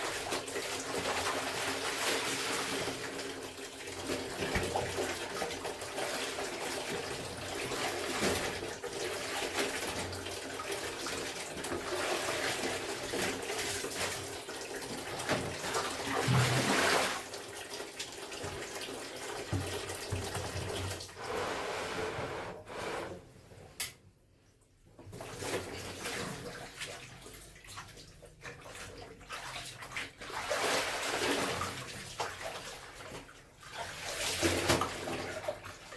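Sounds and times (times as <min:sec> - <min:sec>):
water splashing and sloshing: 0:00.0 - 0:23.8, 0:24.4 - 0:35.9.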